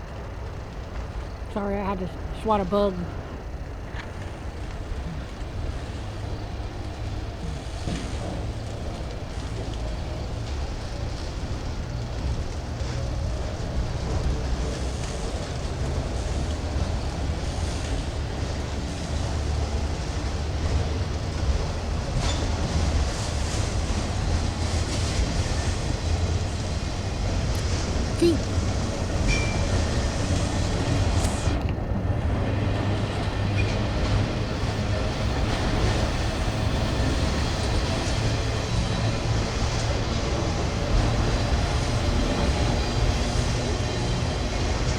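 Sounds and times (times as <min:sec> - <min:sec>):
freight train rolling past: 0:00.0 - 0:44.9.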